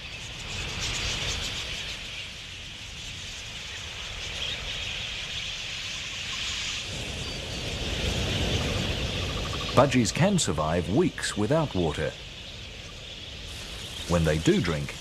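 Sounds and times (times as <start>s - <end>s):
flock of budgerigars chattering: 0.0s - 15.0s.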